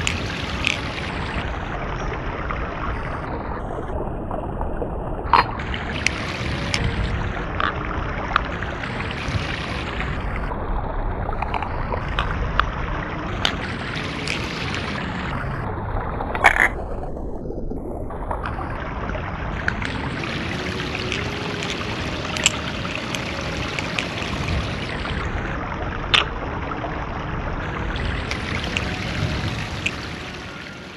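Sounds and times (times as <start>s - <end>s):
creek water running: 0.0s - 30.9s.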